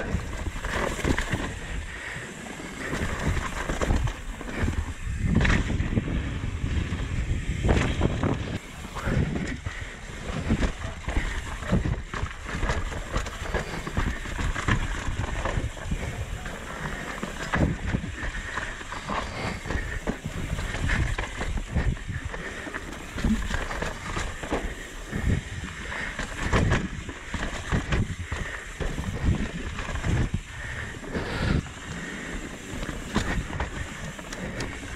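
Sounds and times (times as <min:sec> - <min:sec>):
bike knocking and rattling: 0:00.0 - 0:34.9
bike tyres rolling over dirt: 0:00.0 - 0:34.9
wind noise on microphone: 0:02.8 - 0:34.9.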